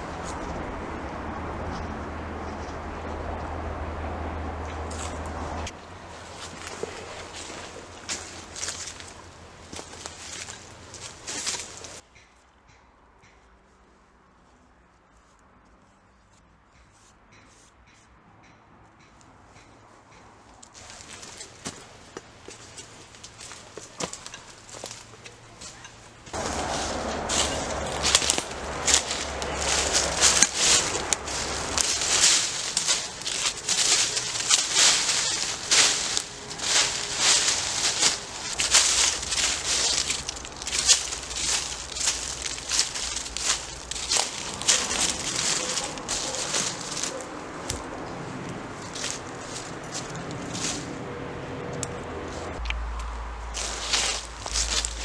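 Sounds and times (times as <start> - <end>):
dry leaves and twigs rustling: 0.0 - 12.4, 20.7 - 51.1, 51.7 - 55.0.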